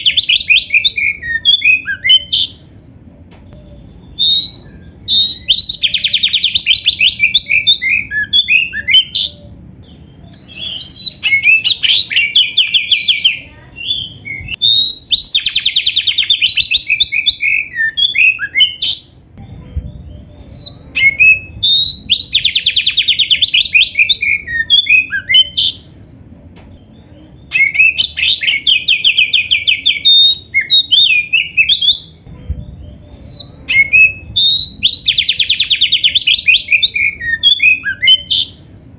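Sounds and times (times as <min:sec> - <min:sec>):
songbird singing: 0:00.0 - 0:02.7, 0:03.4 - 0:19.1, 0:19.8 - 0:26.0, 0:26.6 - 0:38.7.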